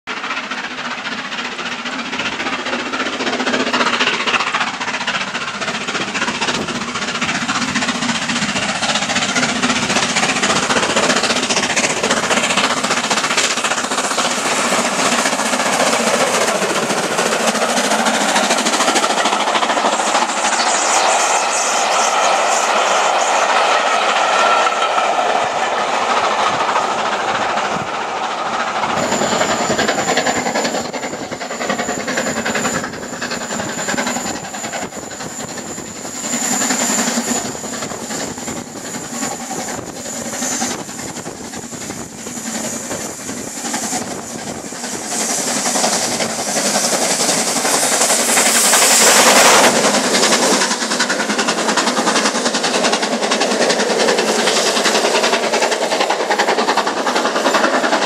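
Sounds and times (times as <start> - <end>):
coaches rumbling on rails: 0.1 - 58.0
steam locomotive exhaust beats: 0.1 - 58.0.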